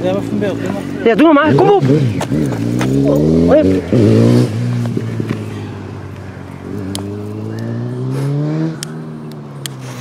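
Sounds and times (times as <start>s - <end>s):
motor vehicle engine running: 0.0s - 10.0s.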